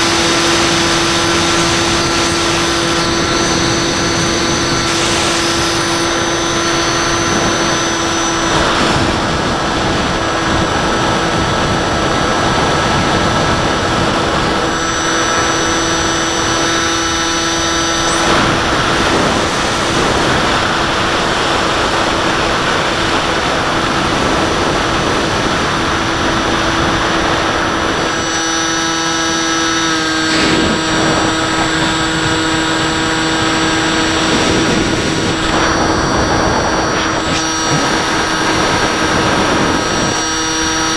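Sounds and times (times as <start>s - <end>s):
wind rushing: 0.0s - 28.3s, 30.4s - 40.9s
electric motor and propeller whining: 0.0s - 40.9s.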